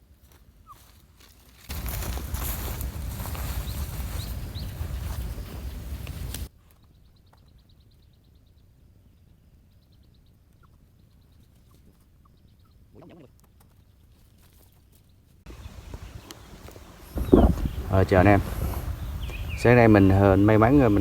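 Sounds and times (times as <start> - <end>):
small birds trilling and chirping: 1.7 - 21.0.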